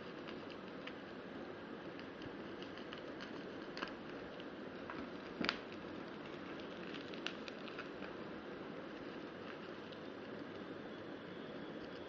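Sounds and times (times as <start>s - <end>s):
small clicks and crackles: 0.0s - 1.2s, 1.8s - 8.3s, 8.9s - 10.8s, 11.7s - 12.0s.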